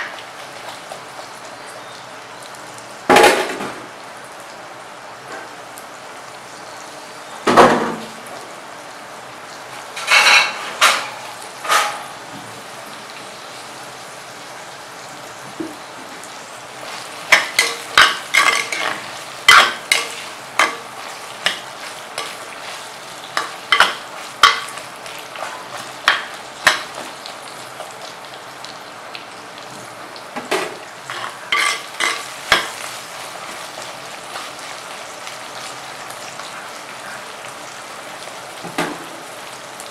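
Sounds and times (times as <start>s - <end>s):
food sizzling in oil: 0.0s - 39.9s.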